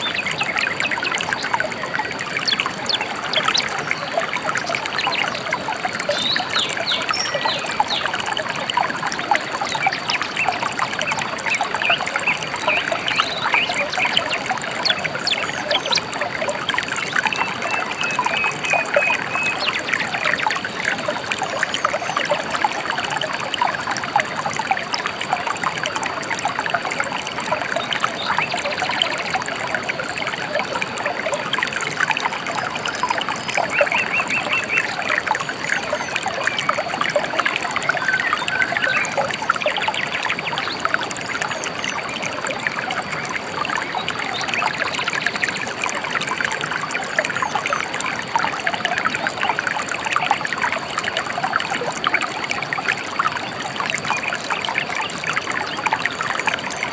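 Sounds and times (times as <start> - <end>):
river water babbling: 0.0 - 56.9.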